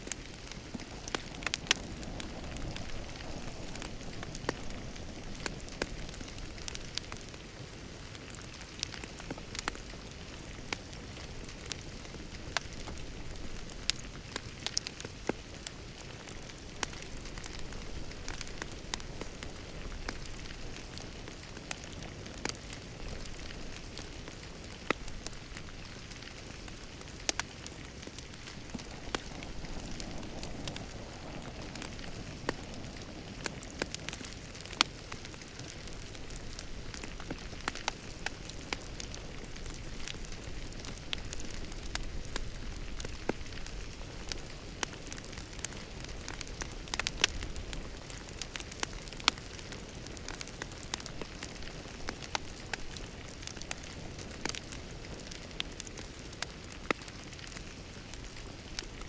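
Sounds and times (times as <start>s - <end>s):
fire hissing: 0.0s - 59.0s
fire snapping and popping: 0.0s - 59.0s.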